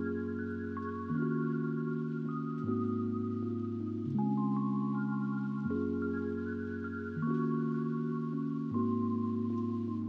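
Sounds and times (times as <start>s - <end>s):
soft held chords: 0.0s - 10.0s.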